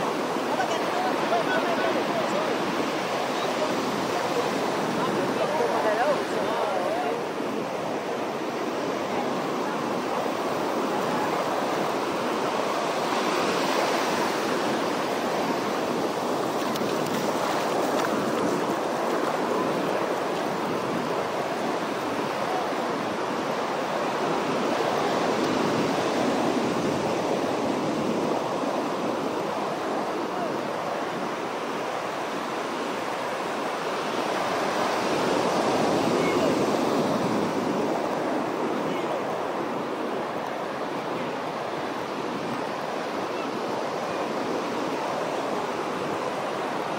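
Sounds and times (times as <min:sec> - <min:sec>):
ocean waves breaking on beach: 0:00.0 - 0:46.9.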